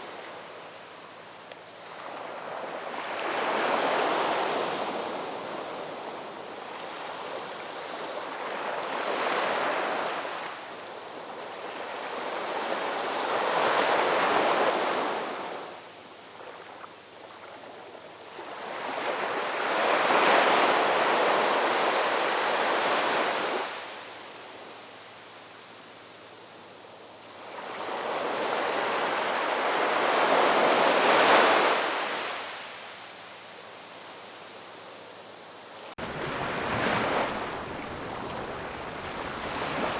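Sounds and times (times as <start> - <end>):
sea waves breaking on shore: 1.8 - 24.2, 27.4 - 33.2, 35.8 - 39.9.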